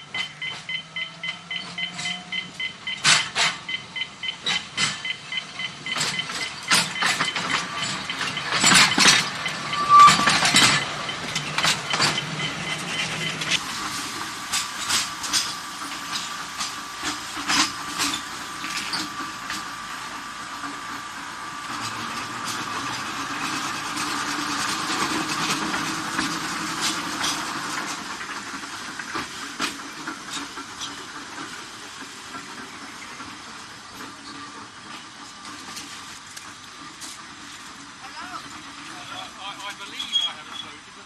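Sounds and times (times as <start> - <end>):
tram wheels clicking and knocking: 0.0 - 41.0
tram whine: 0.0 - 41.0.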